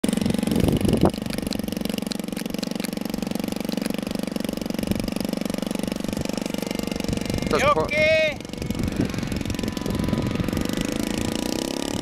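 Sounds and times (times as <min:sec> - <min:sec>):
model airplane engine running: 0:00.0 - 0:12.0.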